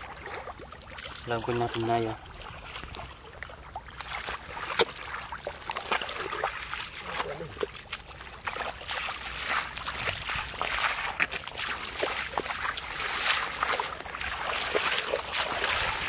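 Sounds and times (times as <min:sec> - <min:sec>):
feet wading through muddy water: 0:00.0 - 0:16.0.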